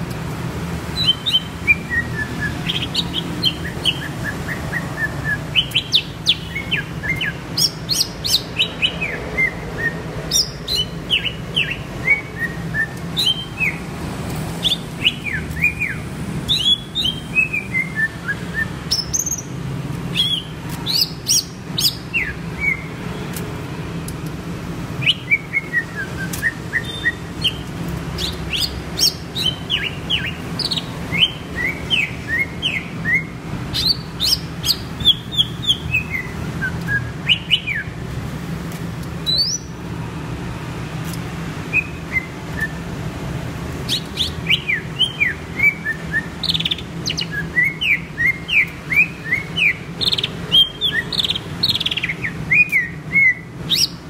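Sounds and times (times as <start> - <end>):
bird singing chirps and whistles: 0.9 - 13.8, 14.6 - 23.0, 25.0 - 38.0, 39.2 - 39.8, 41.6 - 43.0, 43.8 - 54.0.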